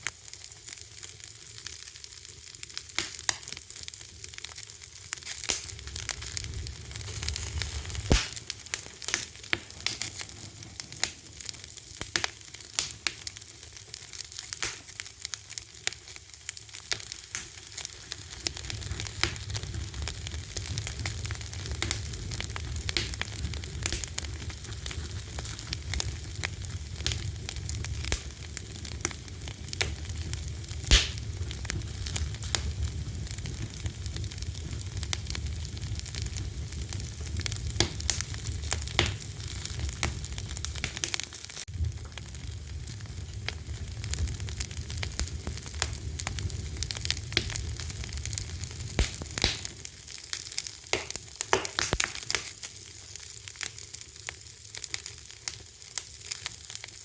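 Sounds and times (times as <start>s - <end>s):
fire crackling and popping: 0.0s - 57.0s
low rumble of flames: 0.2s - 55.1s.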